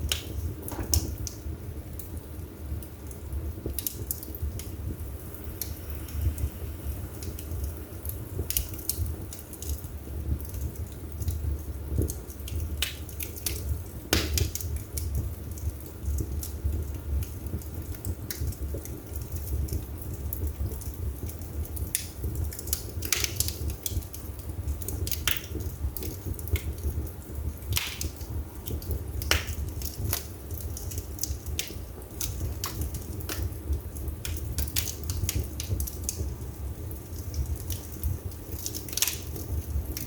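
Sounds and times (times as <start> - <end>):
burning wood crackling and popping: 0.0 - 40.0
low rumble of flames: 0.0 - 40.0.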